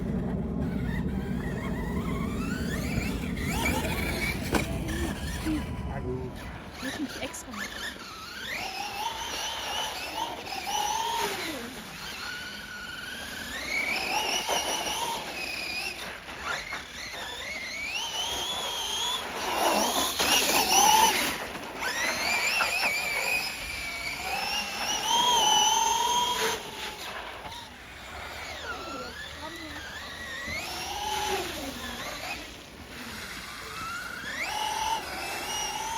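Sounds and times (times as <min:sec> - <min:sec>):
electric motor whining: 0:00.0 - 0:35.9.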